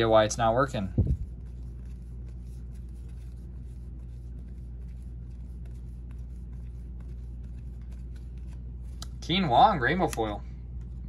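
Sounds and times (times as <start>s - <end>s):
steady low hum: 0.0s - 11.0s
trading cards rustling: 0.8s - 11.0s.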